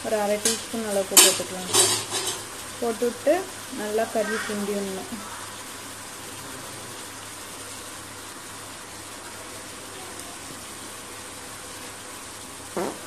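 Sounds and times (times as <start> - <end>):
chicken sizzling in a pan: 0.0 - 12.9.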